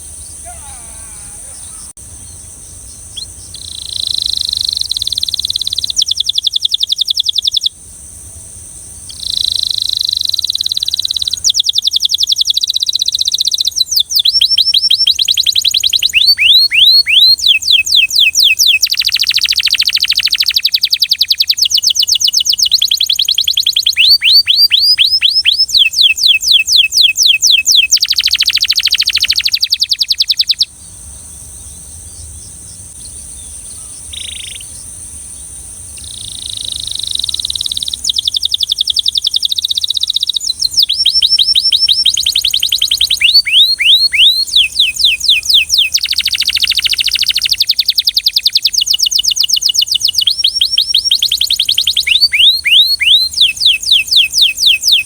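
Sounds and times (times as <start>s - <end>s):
canary singing trills: 0.0s - 7.8s, 9.0s - 55.0s.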